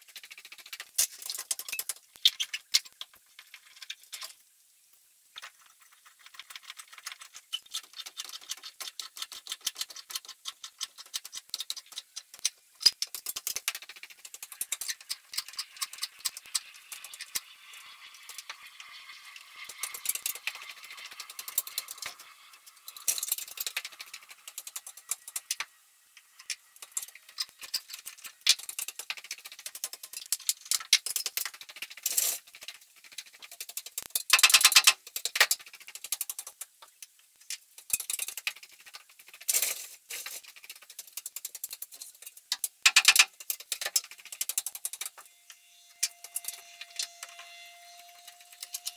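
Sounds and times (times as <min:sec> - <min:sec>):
sped-up high-pitched clicks and rattles: 0:00.0 - 0:48.9.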